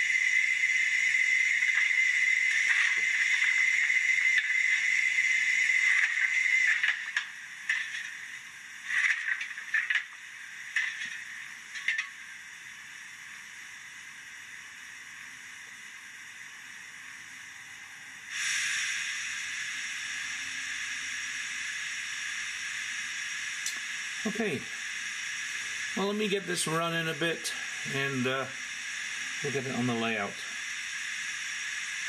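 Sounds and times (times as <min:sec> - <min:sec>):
model locomotive steam hiss: 0:00.0 - 0:32.0.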